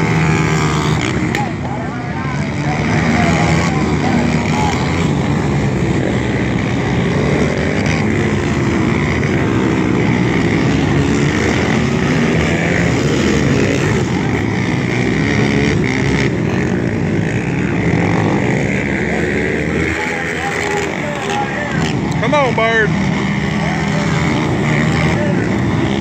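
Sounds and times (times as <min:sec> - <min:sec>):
atv engines revving: 0:00.0 - 0:26.0.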